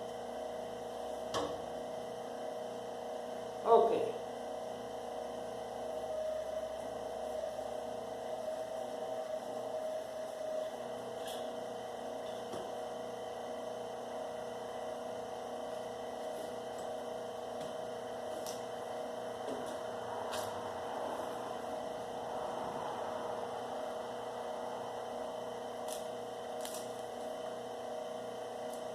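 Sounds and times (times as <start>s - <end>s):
wire stripping machine humming: 0.0s - 3.6s, 4.2s - 28.9s.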